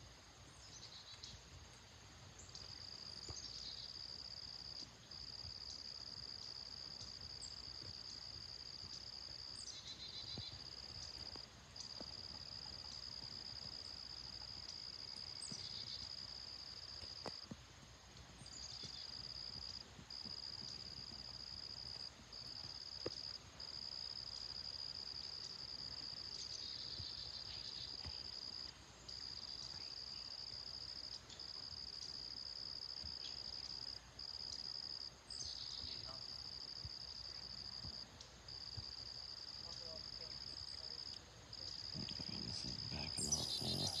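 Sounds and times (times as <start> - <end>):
insects buzzing: 0.5 - 44.0.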